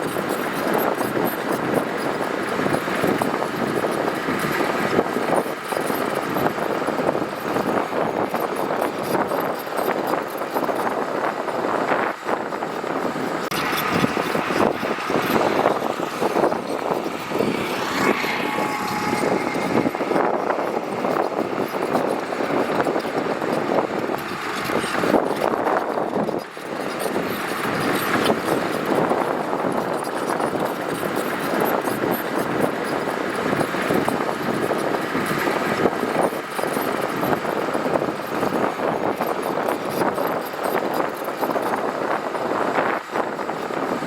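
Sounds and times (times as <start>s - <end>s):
diesel engine noise: 0.0s - 44.0s.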